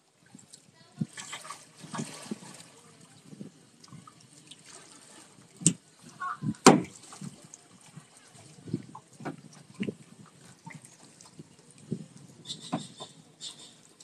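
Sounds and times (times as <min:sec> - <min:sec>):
paddle splashing in water: 0:00.0 - 0:13.9.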